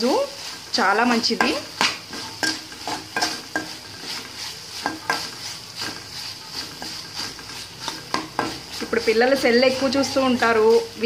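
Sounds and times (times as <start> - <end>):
hot oil sizzling: 0.0 - 11.0
metal spoon scraping a pan: 0.0 - 11.0.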